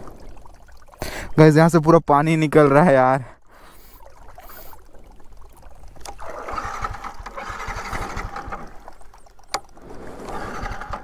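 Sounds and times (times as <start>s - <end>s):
water draining and trickling: 0.0s - 1.8s, 2.5s - 11.0s.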